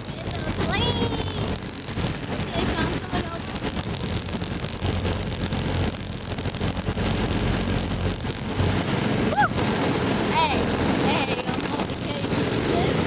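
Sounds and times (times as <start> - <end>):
golf cart motor: 0.0 - 8.9, 9.6 - 13.0
tyres on gravel: 0.0 - 13.0.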